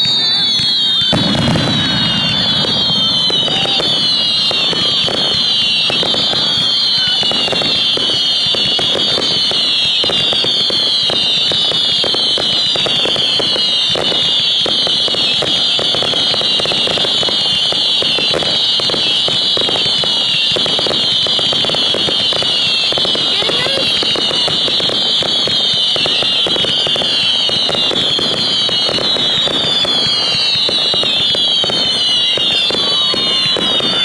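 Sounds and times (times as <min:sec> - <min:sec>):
fireworks bangs and crackling: 0:00.0 - 0:34.0
fireworks whistles falling in pitch: 0:00.0 - 0:34.0.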